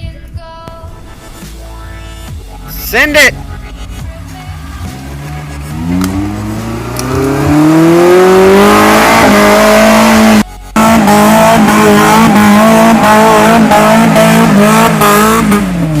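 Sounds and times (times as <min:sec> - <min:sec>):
engine revving at rev limiter: 0:03.2 - 0:16.0.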